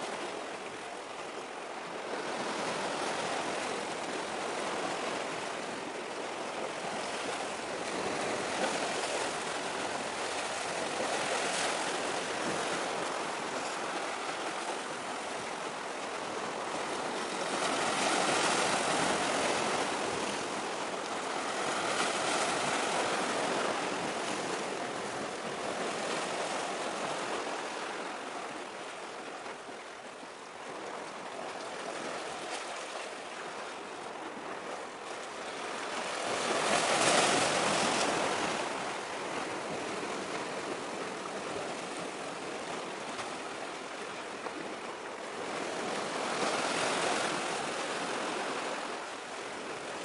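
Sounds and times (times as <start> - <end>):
surf washing on shore: 0.0 - 50.0.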